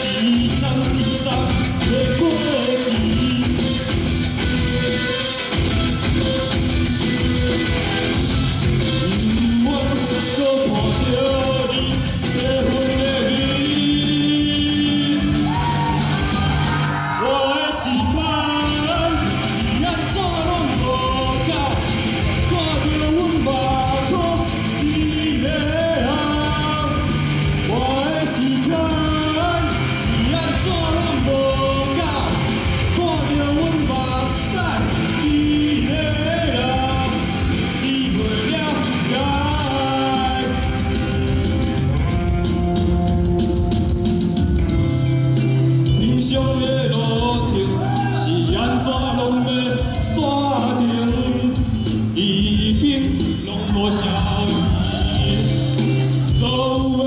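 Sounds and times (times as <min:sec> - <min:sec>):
backing music over pa system: 0:00.0 - 0:57.0
person singing live: 0:00.0 - 0:57.0.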